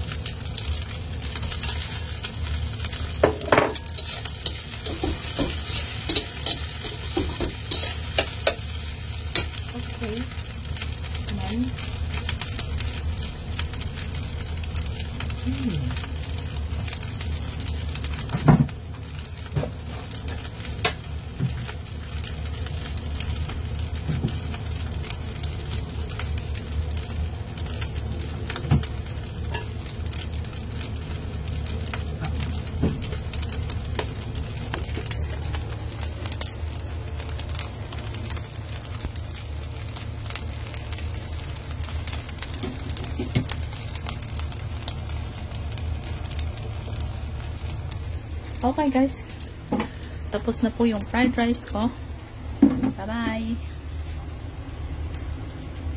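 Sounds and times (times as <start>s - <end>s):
rice sizzling in a wok: 0.0s - 55.9s.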